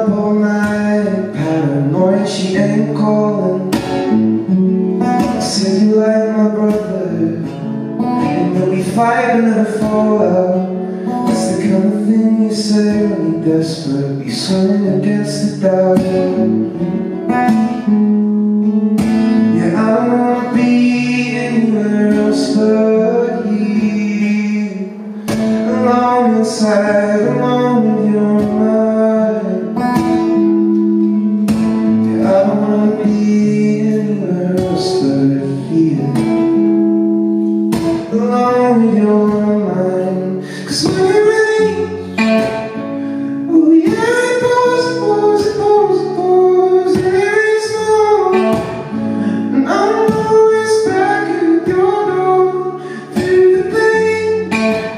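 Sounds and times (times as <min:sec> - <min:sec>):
person singing: 0:00.0 - 0:18.0, 0:19.3 - 0:54.9
guitar playing: 0:00.0 - 0:54.9.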